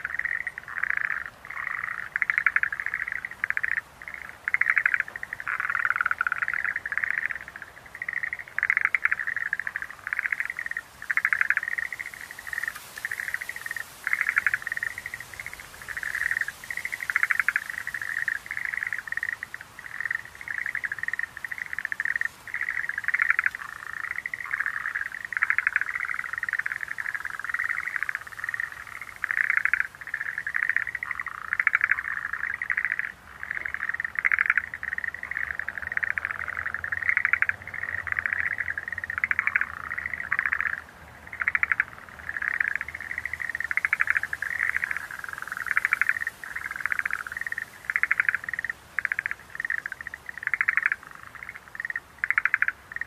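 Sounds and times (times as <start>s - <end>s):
tree frogs calling in trills: 0.0s - 53.0s.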